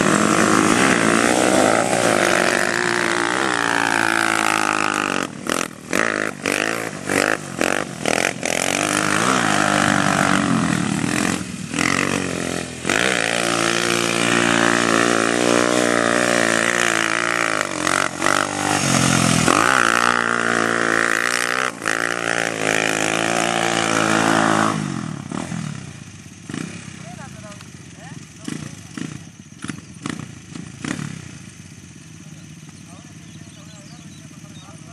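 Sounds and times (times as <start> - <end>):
atv engine revving: 0.0 - 34.9.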